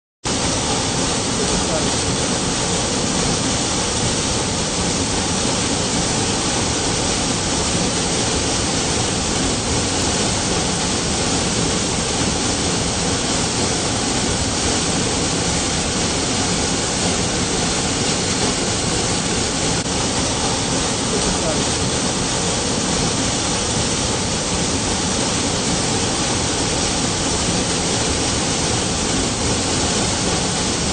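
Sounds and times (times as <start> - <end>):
waterfall rushing: 0.3 - 30.9.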